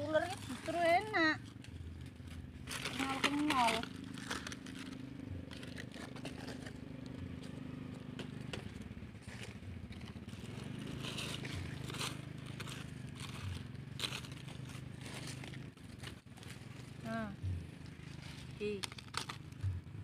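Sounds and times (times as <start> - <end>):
dry leaves crackling being raked: 0.0 - 8.4, 9.2 - 19.6
steady low hum: 0.0 - 20.0.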